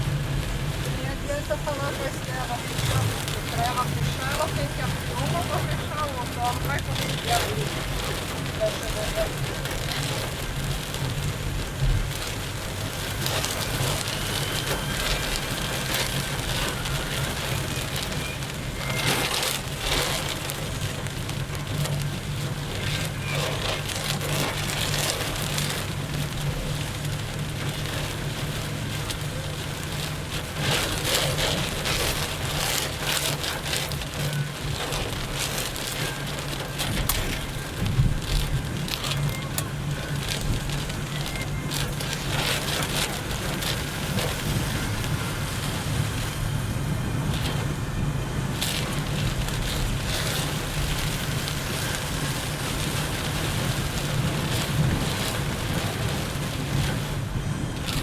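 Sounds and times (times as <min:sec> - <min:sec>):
engine and tyre drone: 0:00.0 - 0:58.0
heavy rain drumming on car: 0:00.0 - 0:58.0
steady low rumble: 0:00.0 - 0:58.0.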